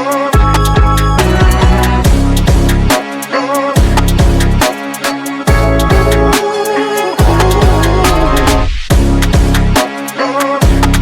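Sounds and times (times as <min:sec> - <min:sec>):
electronic hip-hop music: 0:00.0 - 0:11.0.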